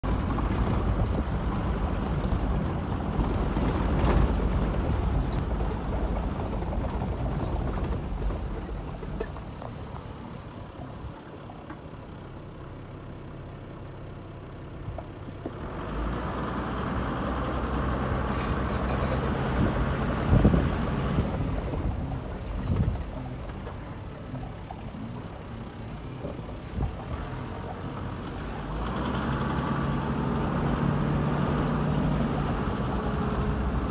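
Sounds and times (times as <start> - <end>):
vehicle engine and tyres rumbling: 0.0 - 33.9.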